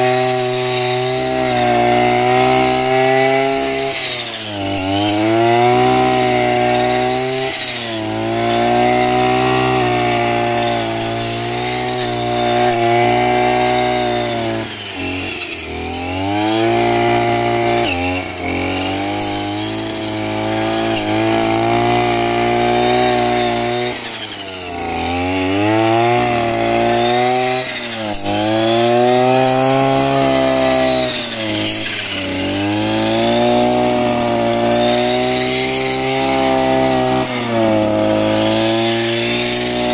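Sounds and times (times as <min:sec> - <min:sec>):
brush cutter engine at high revs: 0:00.0 - 0:39.9
saw blade cutting: 0:00.0 - 0:39.9.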